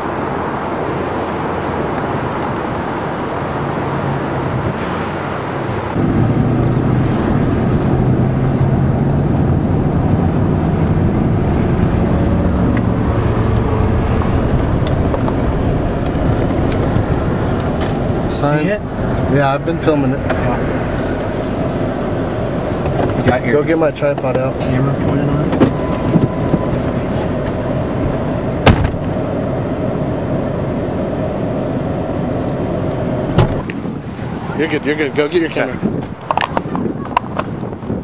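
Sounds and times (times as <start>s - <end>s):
car engine hum: 0.0s - 38.0s
road rumble: 0.0s - 38.0s.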